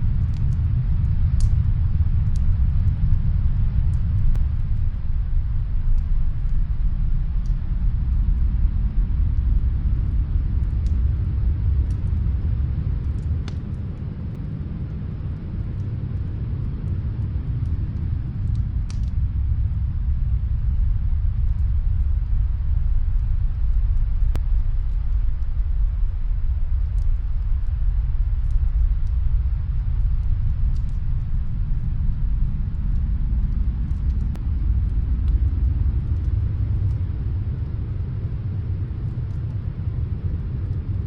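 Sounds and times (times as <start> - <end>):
fire crackles: 0.0 - 41.0
rumbling snowstorm wind: 0.0 - 41.0.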